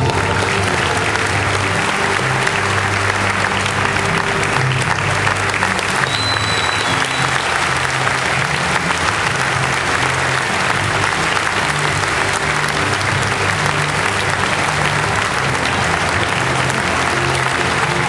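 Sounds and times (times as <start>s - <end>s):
audience applauding: 0.0s - 18.0s
music playing: 0.0s - 18.0s.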